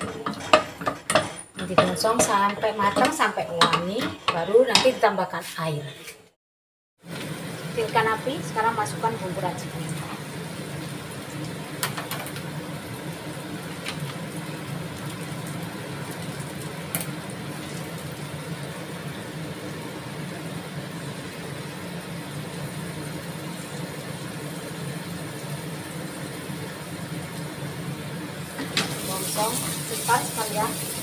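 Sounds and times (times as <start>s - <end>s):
kitchen appliance humming: 0.0s - 5.2s, 7.0s - 31.0s.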